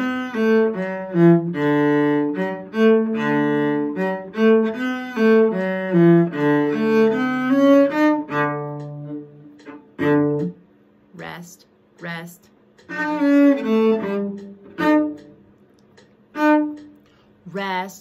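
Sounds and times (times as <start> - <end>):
bowed cello notes: 0.0 - 18.0.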